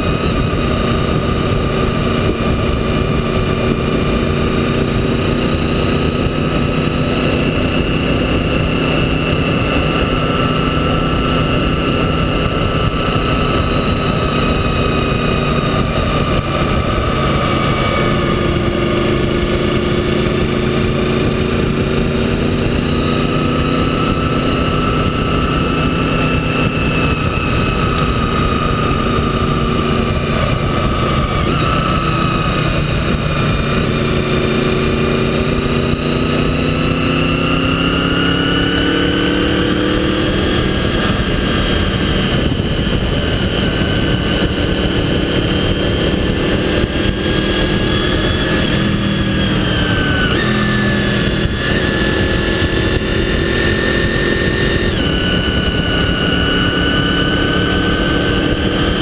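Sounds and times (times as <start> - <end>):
motorcycle engine running: 0.0 - 59.0
wind and road rush: 0.0 - 59.0.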